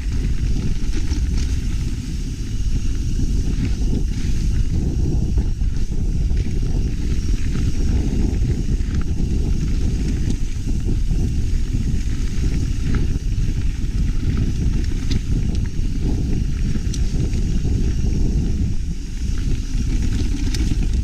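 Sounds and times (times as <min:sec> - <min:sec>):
bike clicks and rattles: 0:00.0 - 0:21.0
wind and trail noise rumble: 0:00.0 - 0:21.0.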